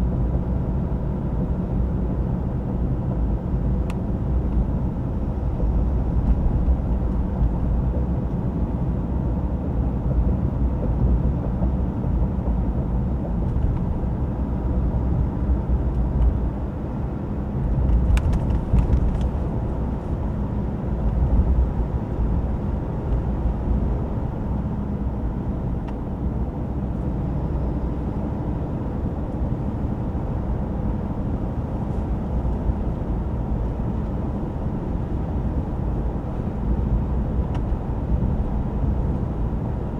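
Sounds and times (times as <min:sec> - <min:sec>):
diesel engine rumble: 0:00.0 - 0:39.9.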